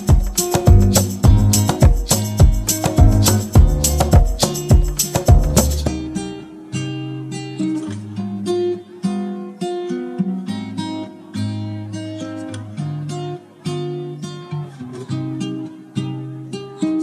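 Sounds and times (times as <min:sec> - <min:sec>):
guitar plucking and strumming: 0:00.0 - 0:17.0.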